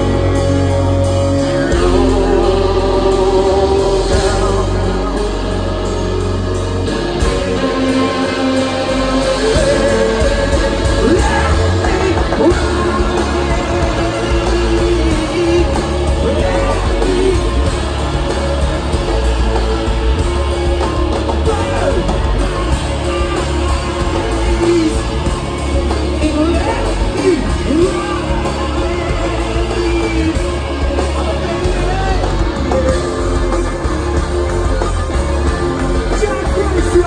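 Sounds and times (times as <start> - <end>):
person singing: 0.0 - 34.5
rock band playing live: 0.0 - 37.0.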